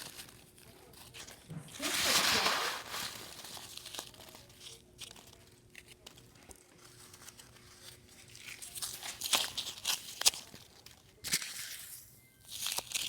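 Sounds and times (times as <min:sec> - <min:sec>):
foam packing peanuts crinkling: 0:00.0 - 0:13.0.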